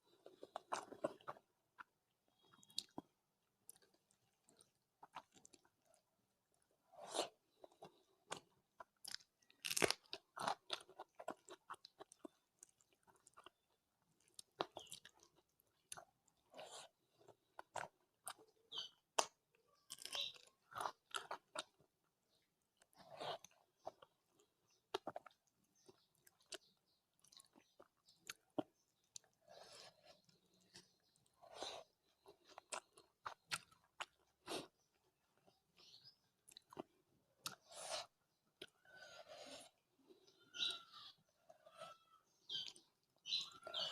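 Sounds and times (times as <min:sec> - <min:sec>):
crunching while chewing: 0:00.0 - 0:06.0, 0:06.9 - 0:21.9, 0:22.8 - 0:43.9
wet chewing sounds: 0:00.0 - 0:43.9.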